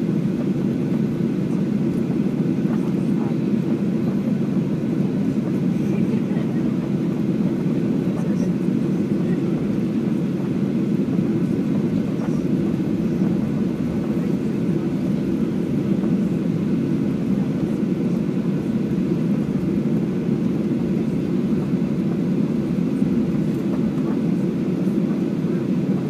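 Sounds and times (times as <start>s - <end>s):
jet engines idling rumble: 0.0s - 26.0s.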